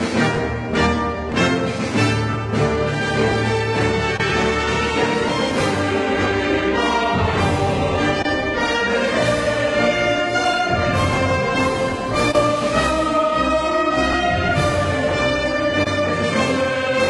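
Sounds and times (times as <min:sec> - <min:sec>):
orchestral music with brass: 0:00.0 - 0:17.0.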